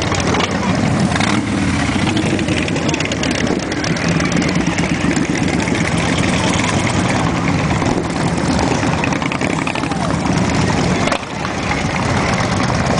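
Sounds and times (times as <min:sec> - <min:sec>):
motorcycles riding past: 0:00.0 - 0:12.9.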